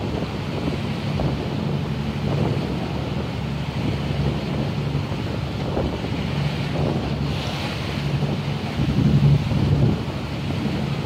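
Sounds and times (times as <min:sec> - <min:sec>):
boat engine humming: 0:00.0 - 0:11.0
water washing past hull: 0:00.0 - 0:11.0
wind buffeting microphone: 0:00.0 - 0:11.0.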